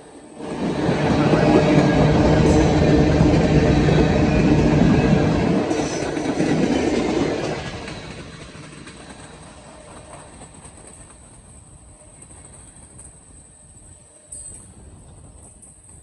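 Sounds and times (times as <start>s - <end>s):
freight train cars rolling past: 0.0s - 16.0s.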